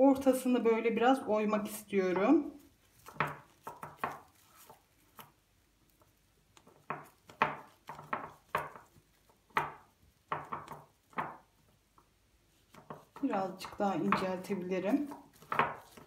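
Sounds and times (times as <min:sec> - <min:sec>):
hands pressing food rustling: 0:02.0 - 0:16.0.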